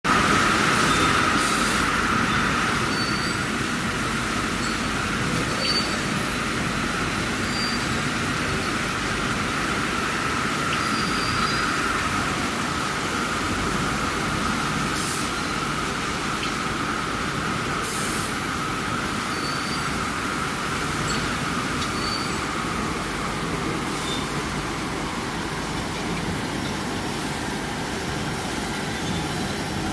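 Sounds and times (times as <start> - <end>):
factory machinery running: 0.1 - 29.9.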